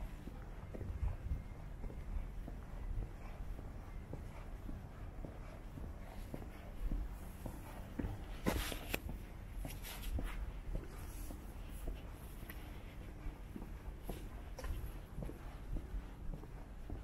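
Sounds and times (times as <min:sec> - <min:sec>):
footsteps on pavement: 0:00.0 - 0:17.0
steady low rumble: 0:00.0 - 0:17.0.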